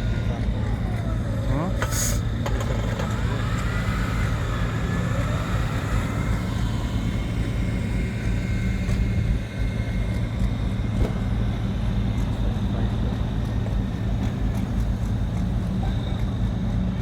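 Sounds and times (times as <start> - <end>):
high whine: 0.0 - 17.0
tractor engine running: 0.0 - 17.0.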